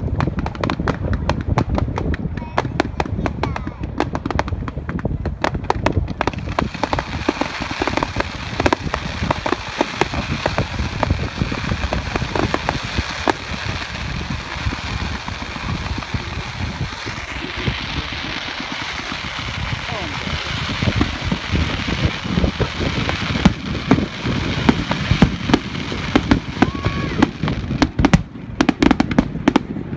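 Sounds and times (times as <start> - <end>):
fireworks crackling: 0.0 - 29.9.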